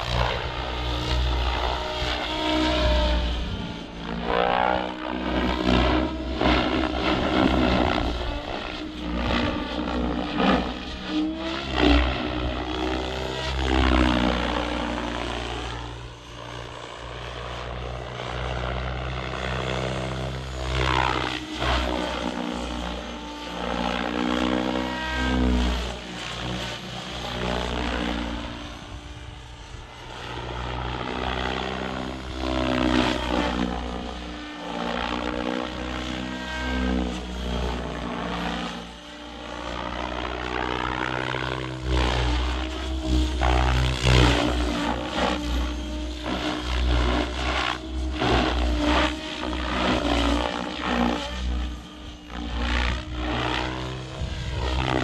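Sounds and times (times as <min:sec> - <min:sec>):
helicopter rotor whooshing: 0:00.0 - 0:55.0
motor and gear whine: 0:00.0 - 0:55.0.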